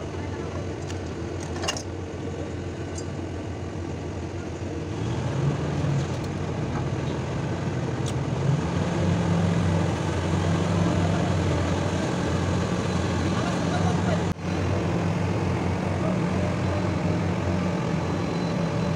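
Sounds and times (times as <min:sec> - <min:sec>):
heavy machinery engine humming: 0:00.0 - 0:18.9.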